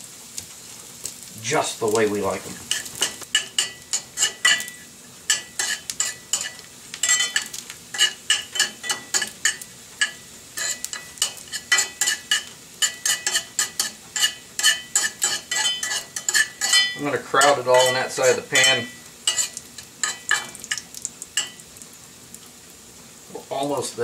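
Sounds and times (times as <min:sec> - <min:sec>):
food sizzling: 0:00.0 - 0:24.0
metal spoon scraping skillet: 0:02.3 - 0:21.6.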